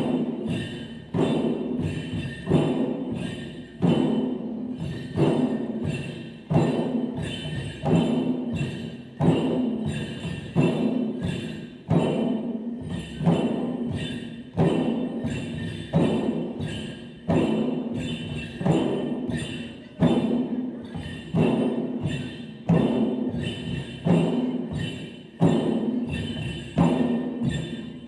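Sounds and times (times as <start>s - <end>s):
barrel drums beaten in rhythm: 0.0s - 28.0s.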